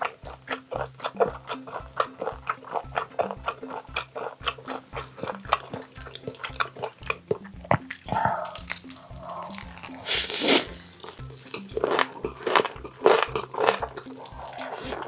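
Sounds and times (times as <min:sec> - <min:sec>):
wet chewing clicks and smacks: 0:00.0 - 0:15.0.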